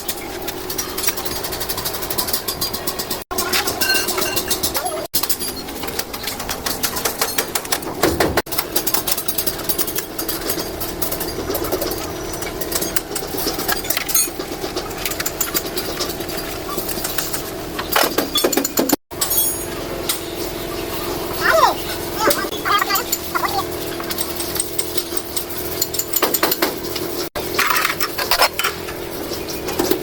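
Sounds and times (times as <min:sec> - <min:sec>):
metallic knocking and clatter: 0:00.0 - 0:20.3, 0:22.8 - 0:30.0.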